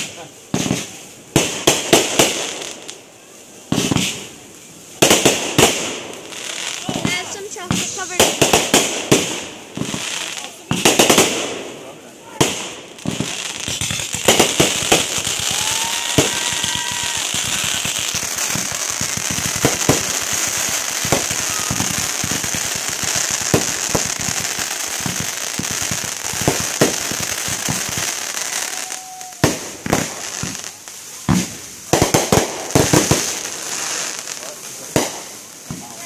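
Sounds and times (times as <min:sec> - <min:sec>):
fireworks bangs: 0:00.0 - 0:36.0
fireworks crackling and popping: 0:00.0 - 0:36.0.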